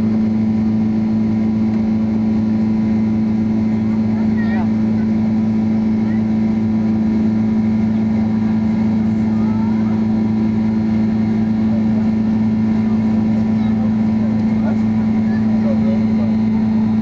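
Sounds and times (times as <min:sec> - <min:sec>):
airplane engines and airflow drone: 0:00.0 - 0:17.0
constant low hum: 0:00.0 - 0:17.0.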